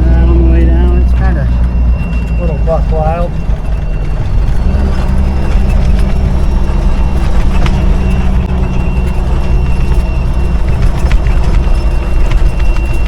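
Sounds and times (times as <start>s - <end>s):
truck engine running in low gear: 0.0s - 13.0s.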